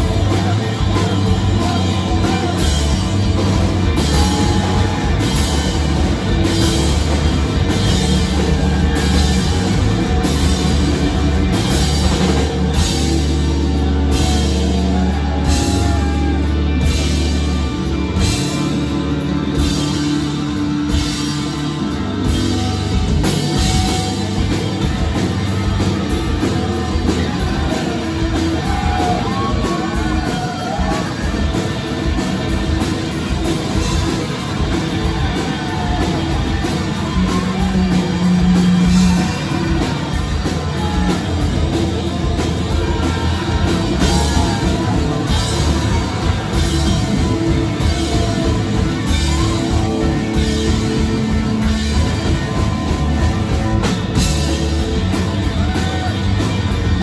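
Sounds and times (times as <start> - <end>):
rock band playing: 0.0 - 57.0.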